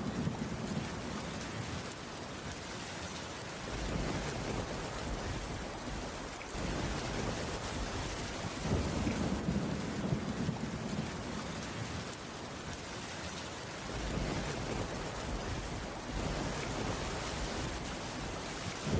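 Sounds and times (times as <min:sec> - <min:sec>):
rain on a wooden roof: 0:00.0 - 0:18.9.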